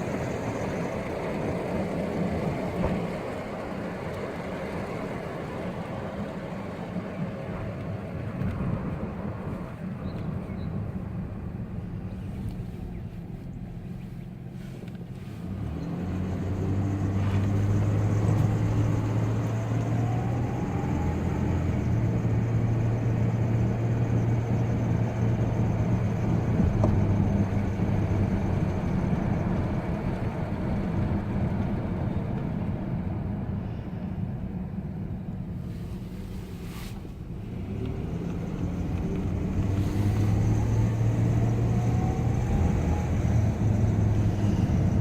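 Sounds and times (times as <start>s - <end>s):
faint rising whine: 0.0s - 45.0s
truck engine accelerating: 0.0s - 45.0s.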